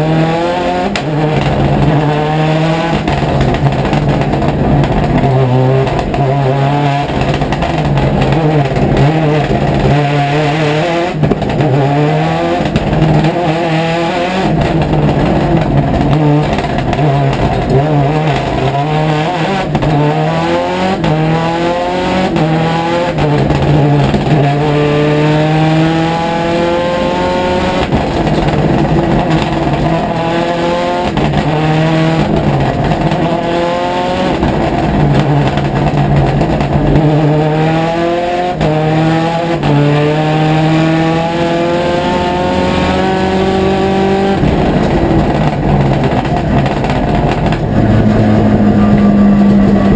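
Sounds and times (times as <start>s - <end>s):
rally car engine at full throttle: 0.0s - 49.9s.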